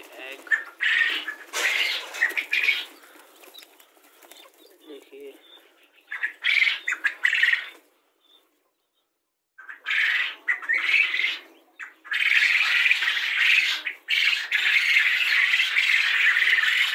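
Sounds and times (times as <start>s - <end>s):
flock of quail calling: 0.0s - 16.9s.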